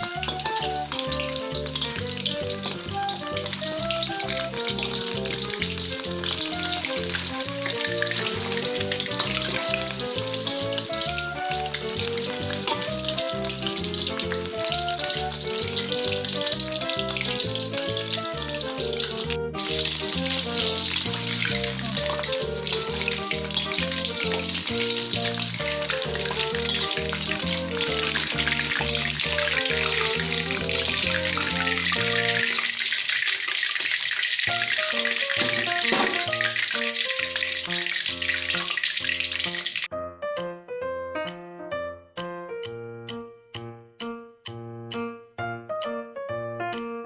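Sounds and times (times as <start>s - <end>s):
background music with beat: 0.0s - 32.5s, 34.6s - 38.2s, 40.2s - 47.0s
food sizzling in hot oil: 0.0s - 39.9s.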